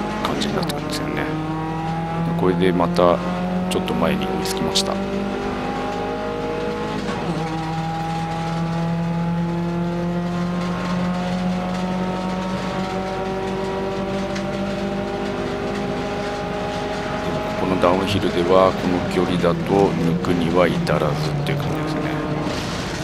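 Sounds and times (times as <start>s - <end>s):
gear change: 0.0s - 23.0s
race car engine running hard: 0.0s - 23.0s.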